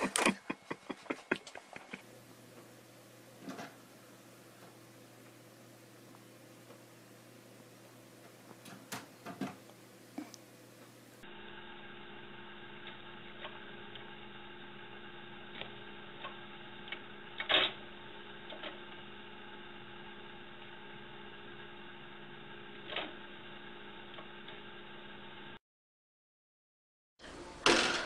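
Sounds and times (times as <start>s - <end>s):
steady electrical hum: 0.0s - 25.6s.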